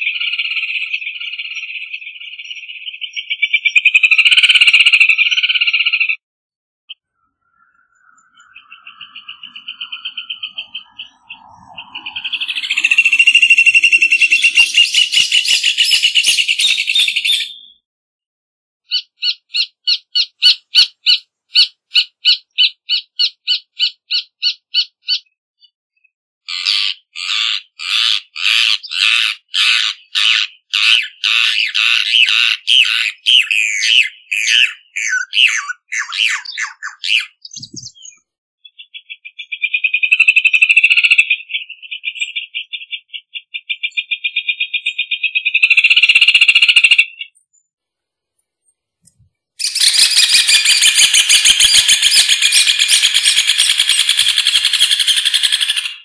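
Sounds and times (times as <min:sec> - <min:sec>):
bird singing shrill repeated notes: 0:00.0 - 0:06.2, 0:06.9 - 0:17.9, 0:18.8 - 0:25.7, 0:26.5 - 0:47.6, 0:49.6 - 0:56.0.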